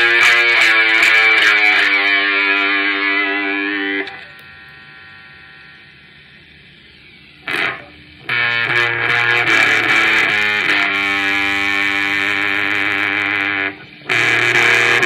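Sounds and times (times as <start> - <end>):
amplifier hum and hiss: 0.0 - 15.0
electric guitar fuzz chord: 0.0 - 15.0
short burst: 0.0 - 15.0.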